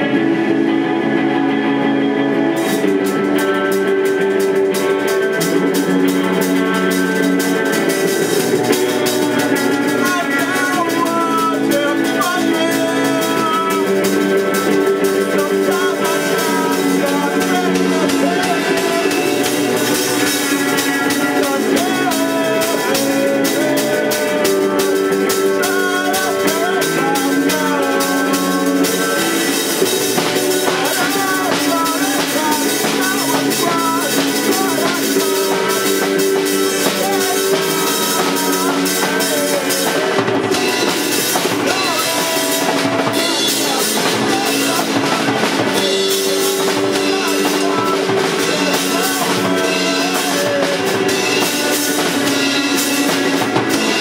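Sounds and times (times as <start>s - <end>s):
drum kit beat: 0.0s - 54.0s
held chords: 0.0s - 54.0s.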